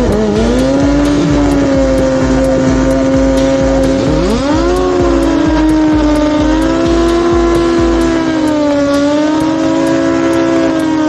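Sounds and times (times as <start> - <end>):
motorcycle engines at high revs: 0.0 - 11.0
second engine revving up: 0.0 - 11.0.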